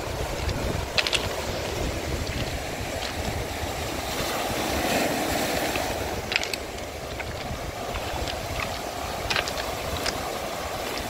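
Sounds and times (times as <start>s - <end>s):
surf washing over pebbles: 0.0s - 11.0s
wind rumbling on microphone: 0.0s - 11.0s.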